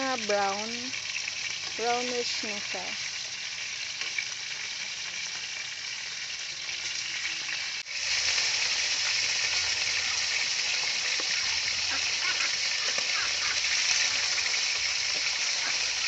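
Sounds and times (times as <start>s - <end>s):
chicken wings sizzling in hot oil: 0.0s - 16.0s.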